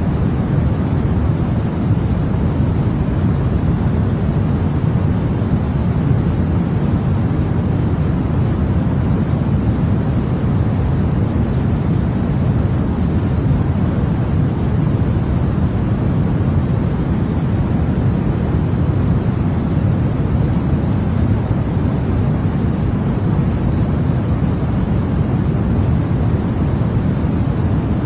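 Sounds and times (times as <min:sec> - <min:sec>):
deep white noise hiss: 0:00.0 - 0:28.0.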